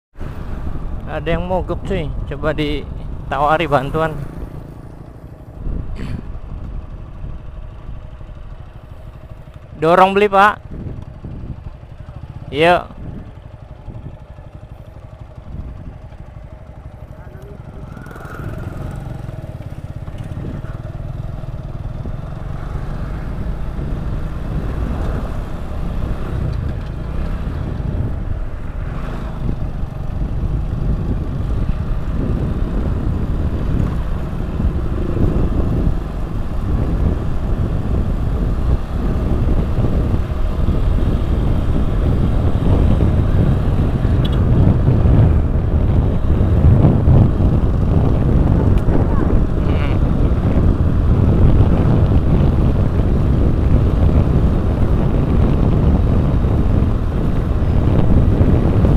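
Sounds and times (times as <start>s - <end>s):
road and wind rumble: 0.0s - 58.9s
motorcycle engine running: 0.2s - 58.9s.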